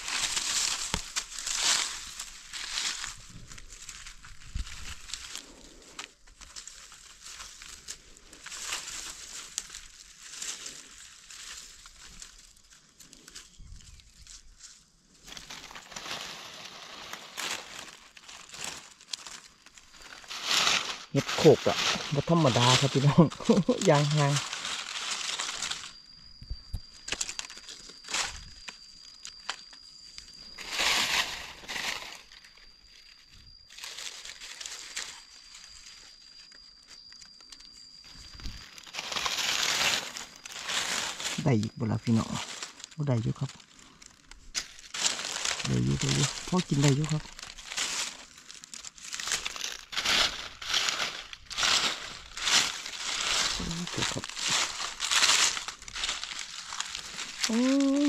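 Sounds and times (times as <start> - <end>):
dry leaves crackling and rustling: 0.0 - 58.0.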